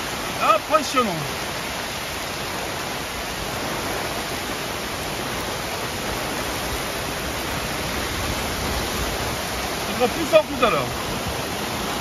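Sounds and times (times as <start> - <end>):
floodwater rushing: 0.0 - 12.0
torrential rain: 0.0 - 12.0.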